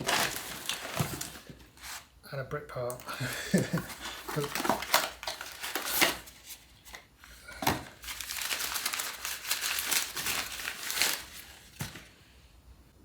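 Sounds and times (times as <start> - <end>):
packaging crinkling and rustling: 0.0 - 2.1, 2.8 - 12.1.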